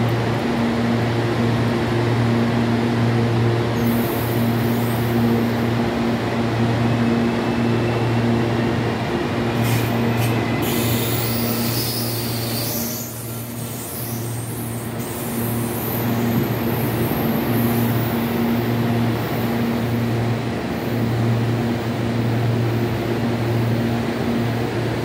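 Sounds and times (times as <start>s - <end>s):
train equipment hum: 0.0s - 25.0s.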